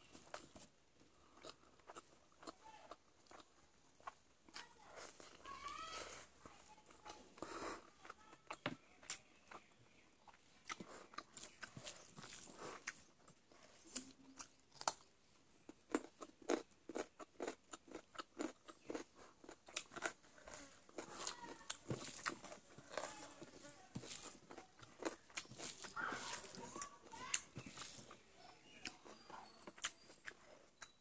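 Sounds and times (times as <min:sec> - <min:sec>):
person chewing chicken: 0:00.1 - 0:05.5, 0:07.1 - 0:15.1, 0:15.7 - 0:31.0.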